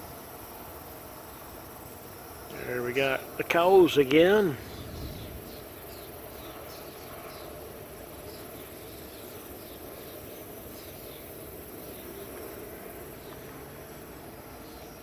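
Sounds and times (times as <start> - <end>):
crickets chirping: 0.0 - 15.0
low background noise: 0.0 - 15.0.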